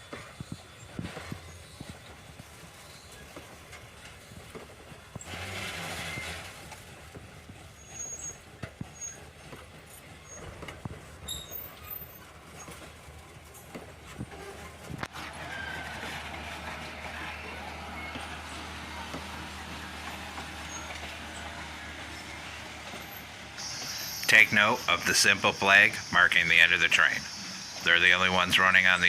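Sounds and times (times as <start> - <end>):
train wheels knocking over rail joints: 0.0 - 25.9.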